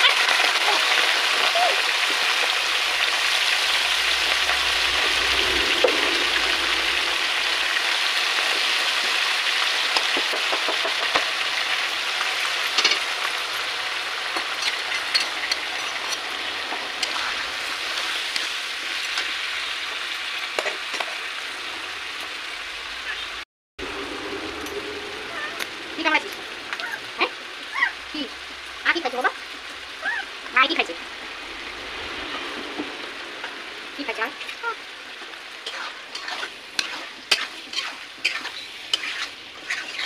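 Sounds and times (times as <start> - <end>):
food sizzling in hot oil: 0.0 - 40.0.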